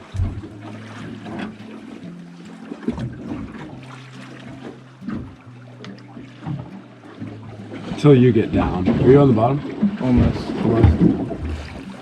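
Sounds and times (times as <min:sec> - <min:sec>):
background music with low notes: 0:00.0 - 0:12.0
boat and water noise: 0:00.0 - 0:12.0.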